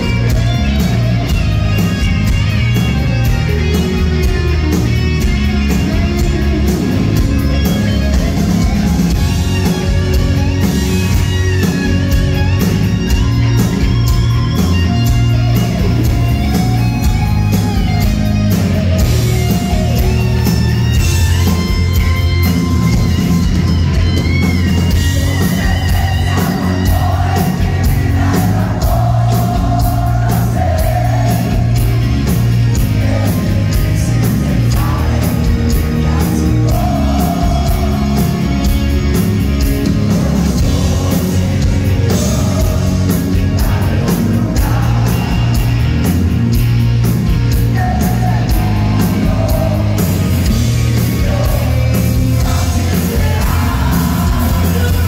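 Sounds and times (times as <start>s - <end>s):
hard rock band playing: 0.0s - 55.0s
lead electric guitar bending notes: 0.0s - 55.0s.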